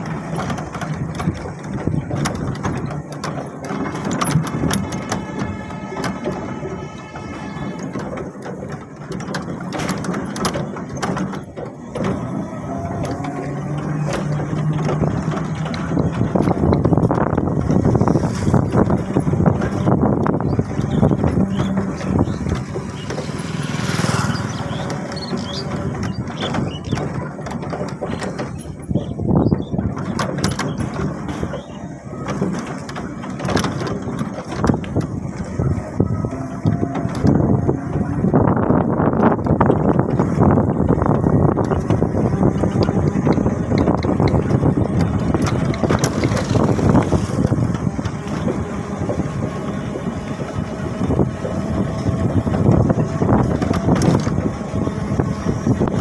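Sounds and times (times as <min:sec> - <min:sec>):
vehicle body rattling on dirt road: 0:00.0 - 0:56.0.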